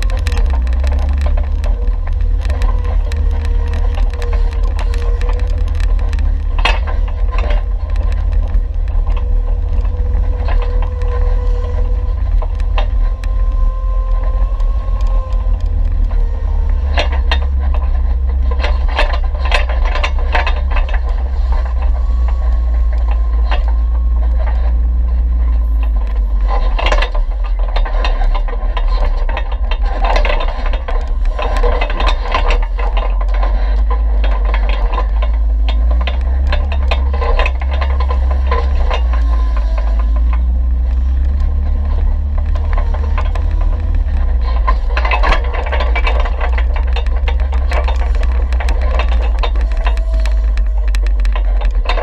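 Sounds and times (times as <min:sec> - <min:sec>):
rattles and knocks: 0:00.0 - 0:52.0
vehicle engine rumble: 0:00.0 - 0:52.0.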